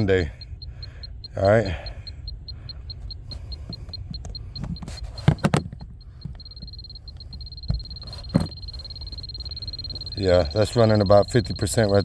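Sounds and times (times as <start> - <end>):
continuous meter tone: 0.0 - 12.0
moisture meter beeping: 0.0 - 12.0.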